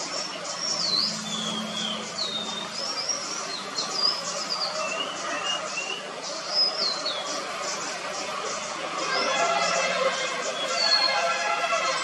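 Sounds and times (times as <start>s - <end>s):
songbirds whistling: 0.0s - 8.3s, 9.0s - 11.6s.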